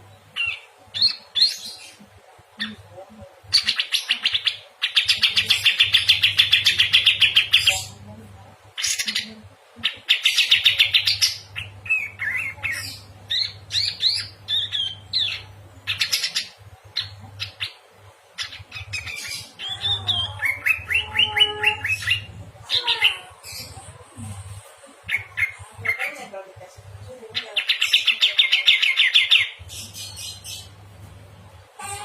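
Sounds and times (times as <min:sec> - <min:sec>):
faint low hum: 0:00.0 - 0:32.0
birds singing trills: 0:00.1 - 0:02.0, 0:03.5 - 0:08.0, 0:08.8 - 0:23.8, 0:25.0 - 0:26.3, 0:27.3 - 0:30.8.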